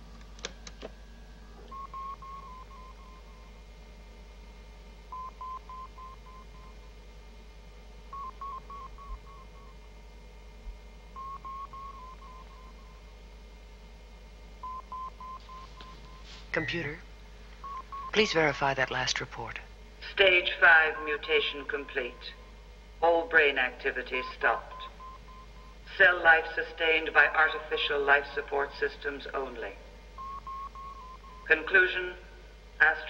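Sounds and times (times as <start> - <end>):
steady electronic hum: 0.0 - 33.0.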